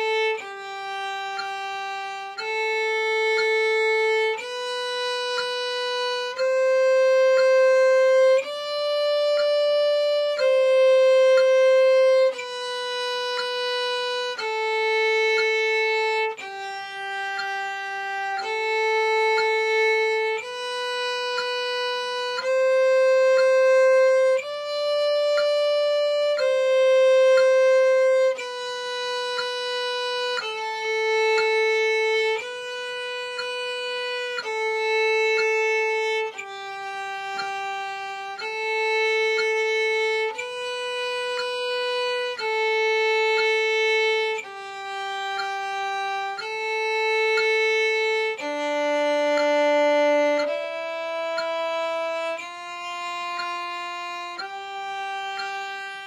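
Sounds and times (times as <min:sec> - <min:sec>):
solo violin melody: 0:00.0 - 0:56.0.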